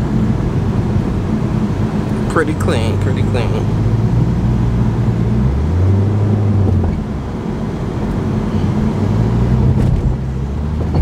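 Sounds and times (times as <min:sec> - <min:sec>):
car engine drone inside cabin: 0:00.0 - 0:11.0
road and tyre noise: 0:00.0 - 0:11.0.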